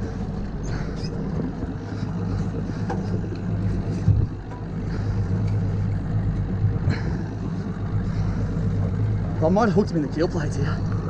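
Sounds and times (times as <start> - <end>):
outboard motor running: 0.0 - 11.0
wind and water hiss: 0.0 - 11.0.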